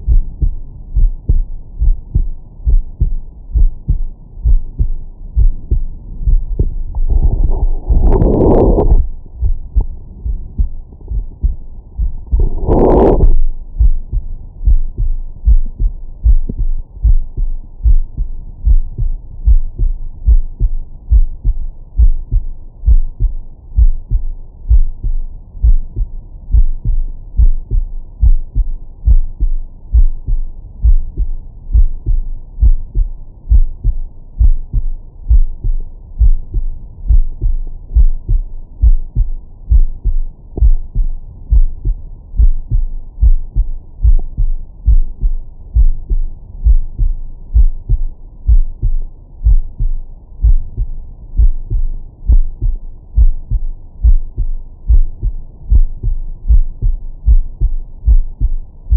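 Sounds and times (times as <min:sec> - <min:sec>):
heartbeat thuds: 0:00.0 - 0:58.7.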